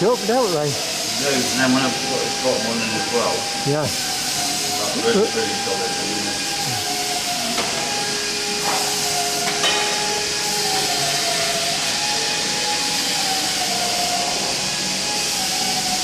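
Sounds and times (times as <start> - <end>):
steady hiss: 0.0 - 16.0
faint wavering whistle: 2.0 - 16.0.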